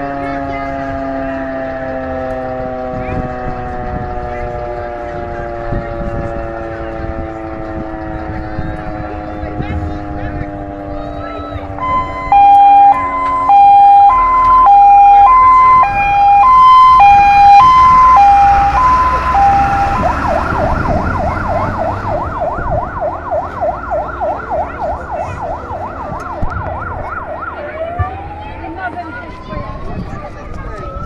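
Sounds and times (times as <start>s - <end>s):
fire truck siren: 0.0s - 31.0s
truck engine rumbling: 0.0s - 31.0s.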